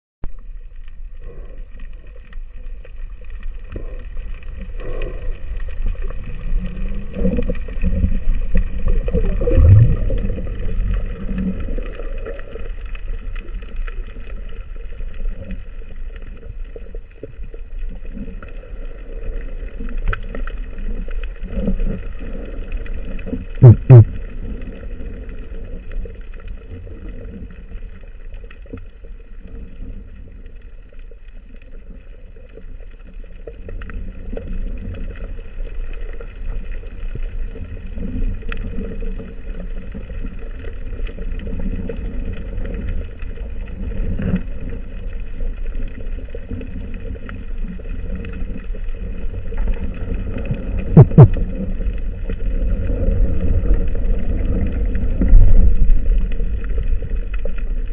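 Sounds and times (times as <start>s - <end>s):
underwater rumble of moving water: 0.2s - 57.9s
faint clicks: 0.3s - 57.9s.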